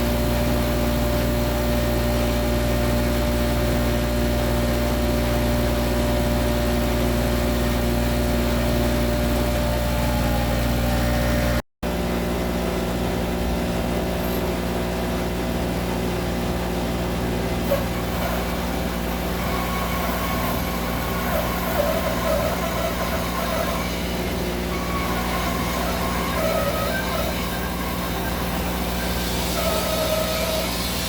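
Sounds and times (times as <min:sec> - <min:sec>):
electric bandsaw running: 0:00.0 - 0:31.0.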